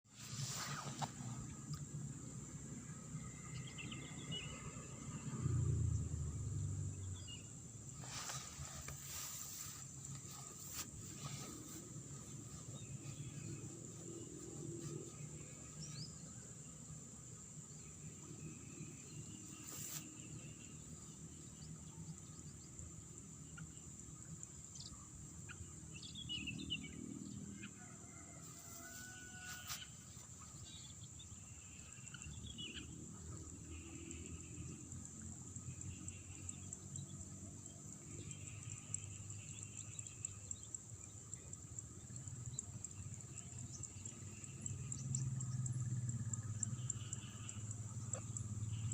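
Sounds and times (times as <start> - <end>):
high insect drone: 0.2 - 48.9.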